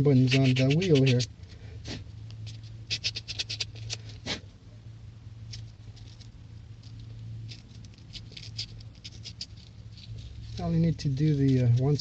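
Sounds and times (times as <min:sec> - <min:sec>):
scratching and scraping strokes: 0:00.0 - 0:04.5, 0:05.4 - 0:12.0
steady low hum: 0:00.0 - 0:12.0.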